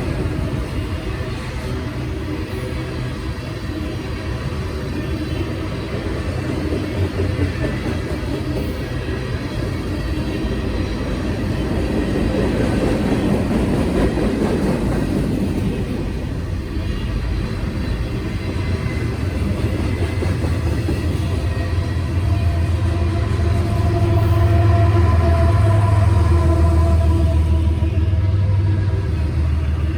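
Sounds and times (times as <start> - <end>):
freight train rumbling on rails: 0.0 - 29.9.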